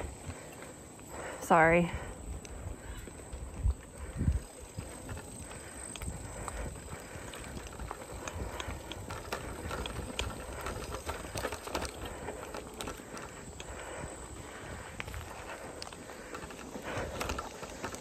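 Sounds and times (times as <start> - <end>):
bicycle tyres rumbling on dirt: 0.0 - 18.0
bike clicking and rattling: 0.0 - 18.0.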